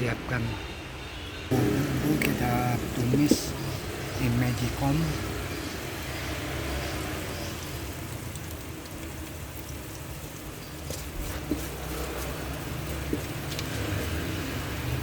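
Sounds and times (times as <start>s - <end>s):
spice paste sizzling in a pot: 1.5s - 15.0s.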